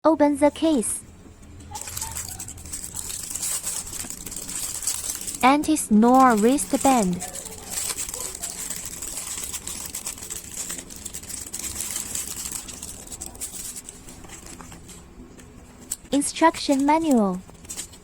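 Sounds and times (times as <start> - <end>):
packaging clicks and rustles: 1.4 - 18.0.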